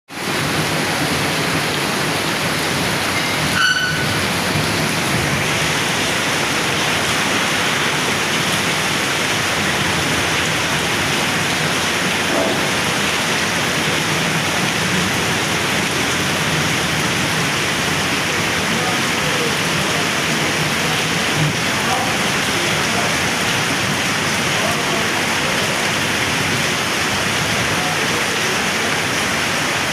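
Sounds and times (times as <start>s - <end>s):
heavy rain falling: 0.1s - 29.9s.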